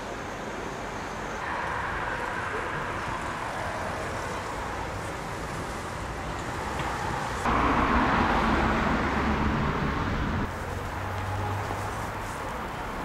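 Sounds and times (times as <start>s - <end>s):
passing cars rushing: 1.4s - 13.0s.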